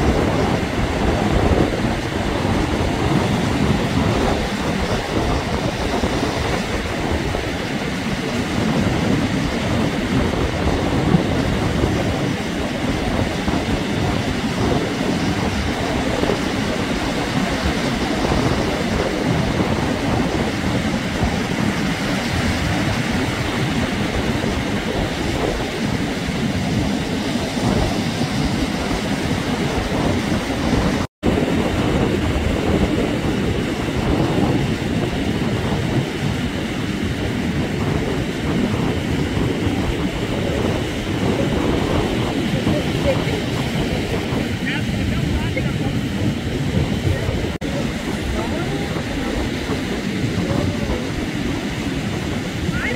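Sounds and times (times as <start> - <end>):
surf breaking on a beach: 0.0 - 52.9
wind rumbling on microphone: 0.0 - 52.9.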